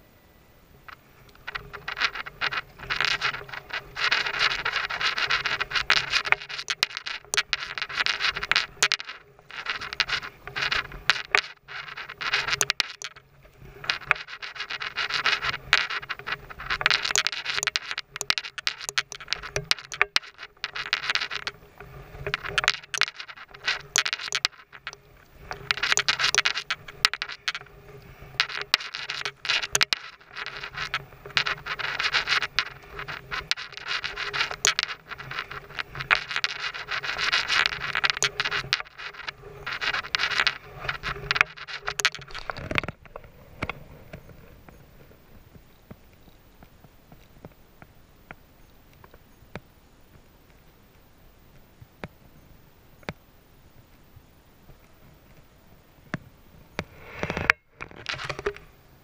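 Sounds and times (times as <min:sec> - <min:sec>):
small knocks and clicks: 0:00.9 - 0:50.6, 0:53.0 - 0:53.2, 0:53.8 - 0:58.8.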